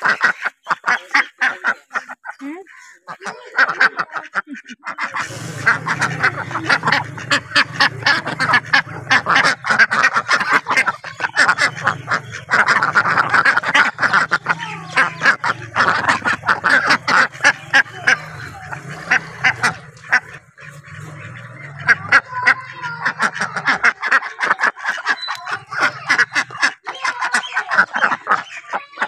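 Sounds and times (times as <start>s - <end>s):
ducks quacking: 0.0s - 29.0s.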